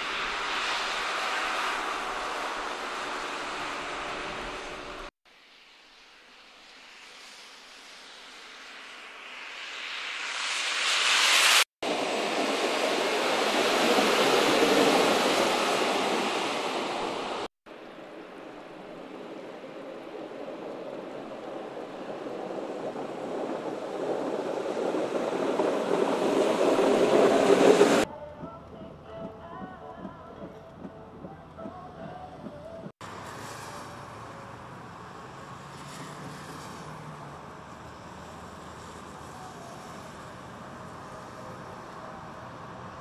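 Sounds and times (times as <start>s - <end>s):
snowplow trucks passing: 0.0s - 5.1s, 6.4s - 43.0s
tyres hissing through slush: 0.0s - 17.6s, 18.8s - 28.1s, 33.0s - 43.0s.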